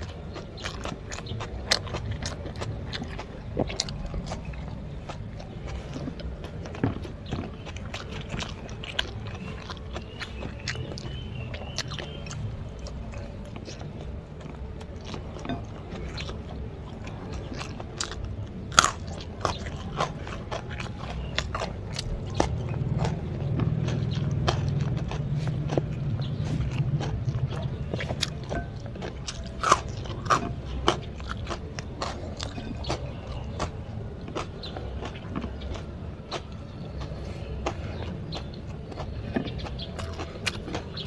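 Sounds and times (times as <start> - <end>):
chewing crunchy food: 0.0 - 41.0.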